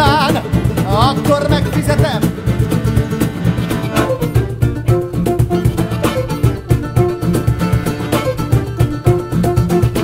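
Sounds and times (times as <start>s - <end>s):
acoustic folk band music: 0.0s - 10.0s.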